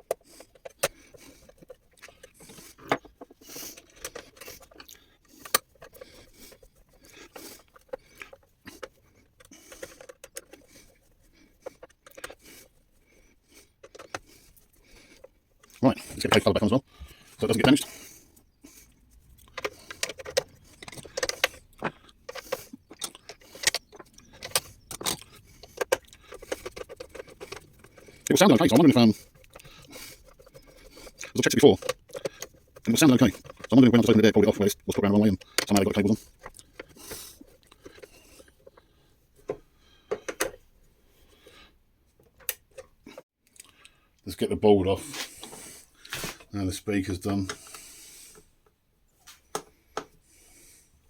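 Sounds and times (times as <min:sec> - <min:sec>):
hands clicking and rattling plastic: 0:00.0 - 0:40.7, 0:42.2 - 0:43.8, 0:49.3 - 0:50.2.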